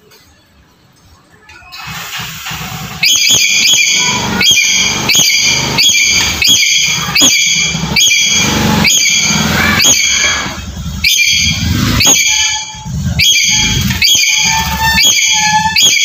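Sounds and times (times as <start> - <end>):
parrot screeching: 3.0 - 16.0.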